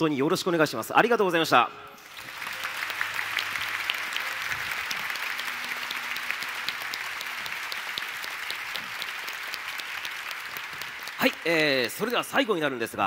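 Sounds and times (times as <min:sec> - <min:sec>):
crowd applauding: 0:02.0 - 0:13.0.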